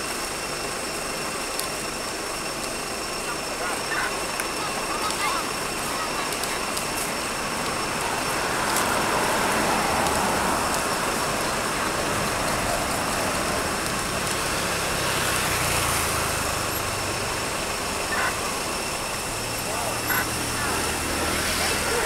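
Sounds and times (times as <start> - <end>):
road traffic: 0.0 - 22.0
passing engine hum: 3.2 - 22.0.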